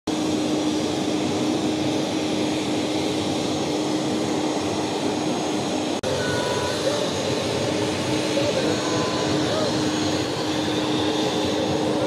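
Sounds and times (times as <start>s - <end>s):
jet engine rush: 0.1s - 12.0s.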